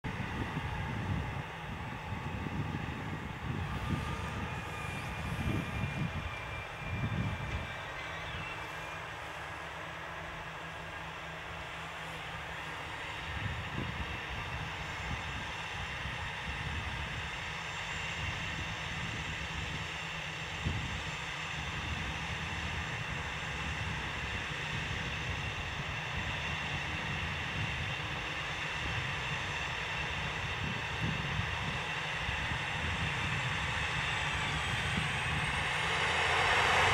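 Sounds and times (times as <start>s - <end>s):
diesel tractor engine droning: 0.0s - 36.9s.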